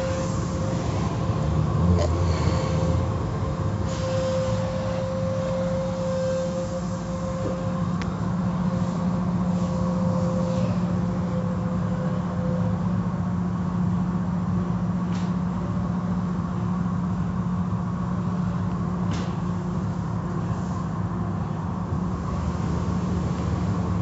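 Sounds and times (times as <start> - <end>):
car wash machinery hum: 0.0 - 24.0.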